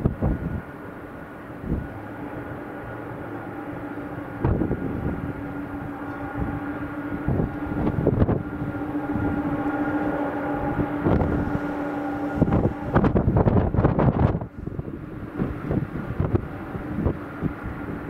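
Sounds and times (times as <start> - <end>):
jet engines humming: 0.0 - 18.0
wind gusts on microphone: 0.0 - 18.0.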